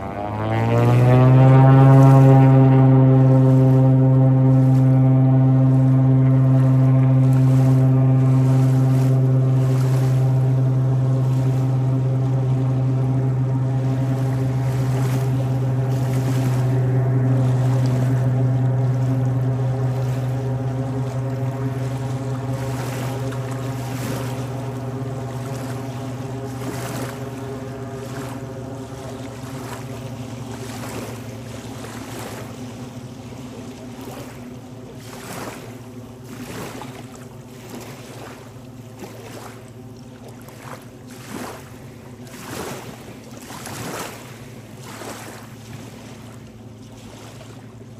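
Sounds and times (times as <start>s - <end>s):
motorboat engine droning: 0.0s - 47.9s
small waves lapping: 0.0s - 47.9s.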